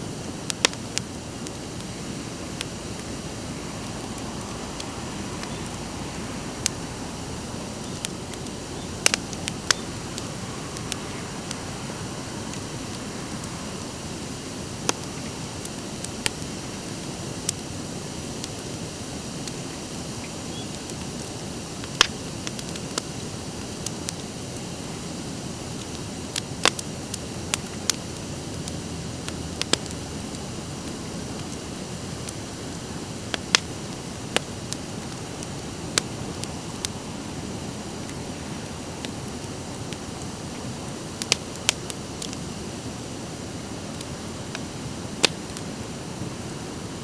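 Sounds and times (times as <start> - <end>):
fire burning: 0.0 - 47.0
fire crackling and popping: 0.0 - 47.0.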